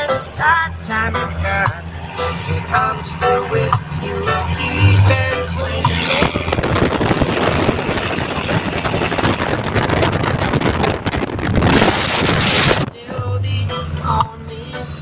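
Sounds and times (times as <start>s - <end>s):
music: 0.0s - 10.2s, 12.8s - 15.0s
wind rushing over microphone: 0.0s - 14.0s
vehicle engine running flat out: 0.0s - 15.0s.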